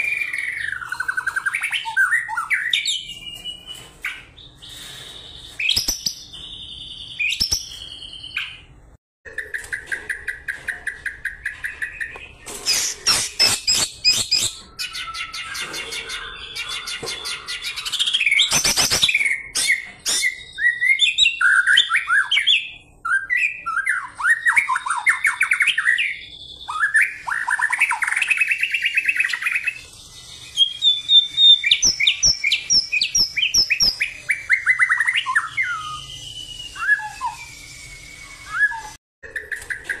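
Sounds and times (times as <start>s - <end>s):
bird singing trills and whistles: 0.0s - 8.7s, 9.3s - 40.0s.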